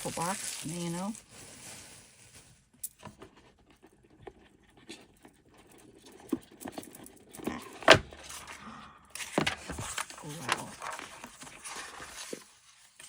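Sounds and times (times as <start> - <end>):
paper packaging rustling: 0.0 - 5.4, 6.0 - 13.0.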